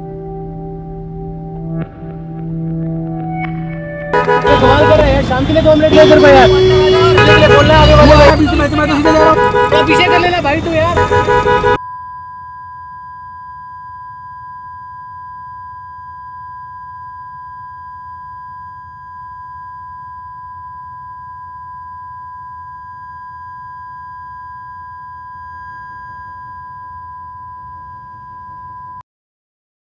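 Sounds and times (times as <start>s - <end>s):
high-pitched electronic tone: 3.0s - 10.5s, 11.6s - 29.0s.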